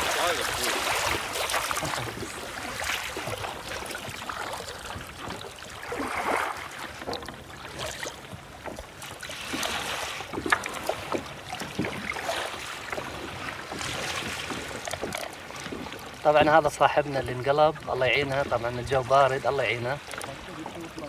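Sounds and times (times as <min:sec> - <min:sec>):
water splashing around kayaks: 0:00.0 - 0:21.0.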